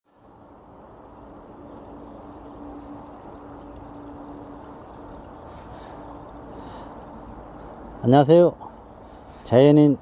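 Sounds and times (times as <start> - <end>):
crickets chirring: 0.1 - 10.0.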